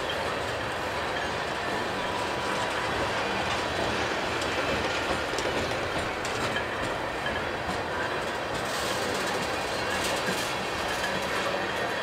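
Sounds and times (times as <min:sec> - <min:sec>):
train cars rumbling: 0:00.0 - 0:12.0
train wheels clicking: 0:00.0 - 0:12.0.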